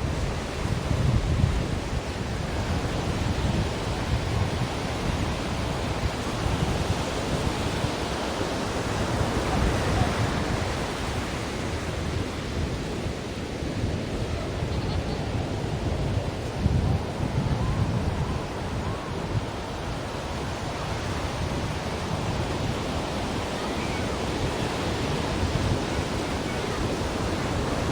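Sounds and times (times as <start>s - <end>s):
waves breaking: 1.9s - 27.9s.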